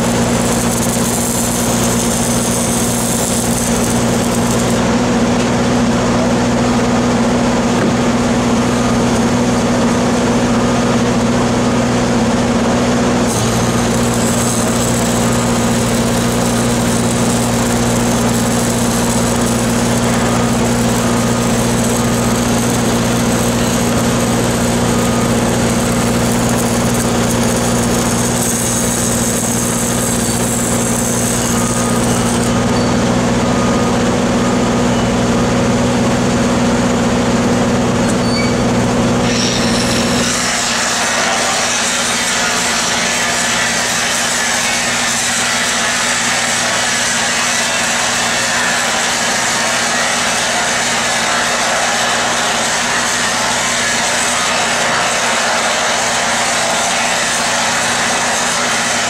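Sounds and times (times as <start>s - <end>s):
arc welding crackle: 0.0s - 5.6s, 8.2s - 11.9s, 12.8s - 33.3s, 38.7s - 59.0s.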